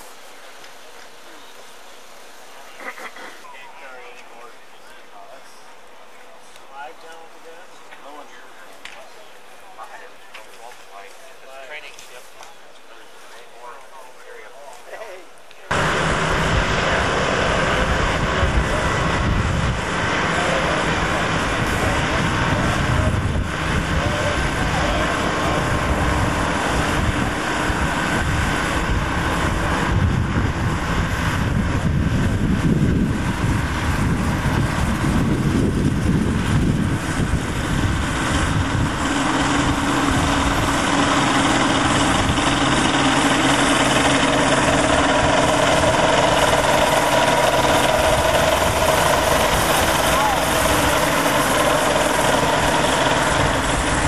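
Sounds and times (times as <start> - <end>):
plane engine and propeller droning: 0.0 - 54.0.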